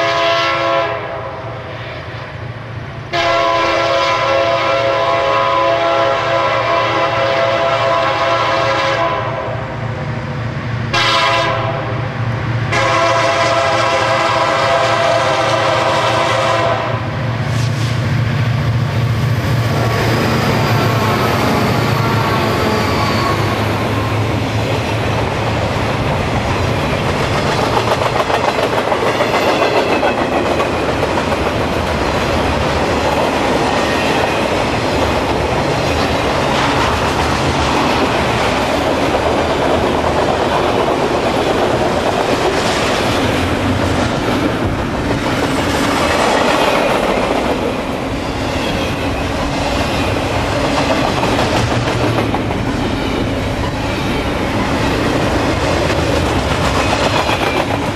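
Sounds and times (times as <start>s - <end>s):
freight train wheels rumbling: 0.0s - 57.9s.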